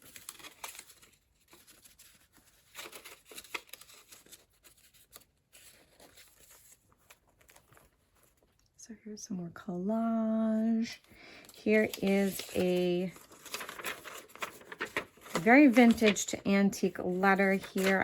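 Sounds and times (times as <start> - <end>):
paper rustling and crinkling: 0.0 - 8.7, 10.9 - 18.0.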